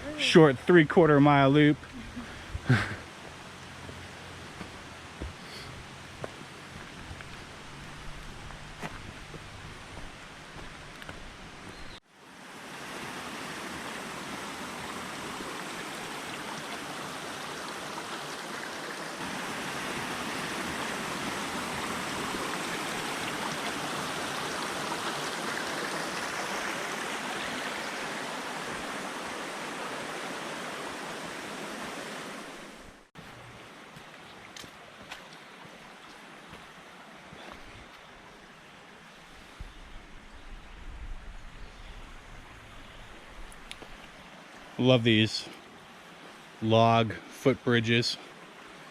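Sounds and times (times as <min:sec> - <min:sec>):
stream rushing over rocks: 0:00.0 - 0:40.3, 0:42.0 - 0:48.9.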